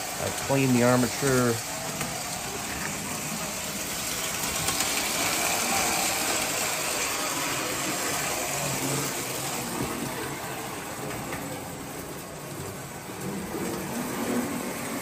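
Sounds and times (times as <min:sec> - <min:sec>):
toy train rumbling on track: 0:00.0 - 0:15.0.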